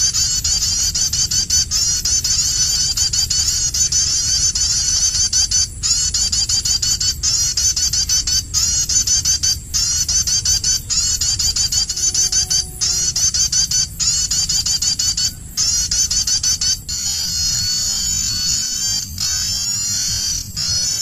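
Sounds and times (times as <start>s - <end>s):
recorded bird call from loudspeaker: 0.0s - 21.0s.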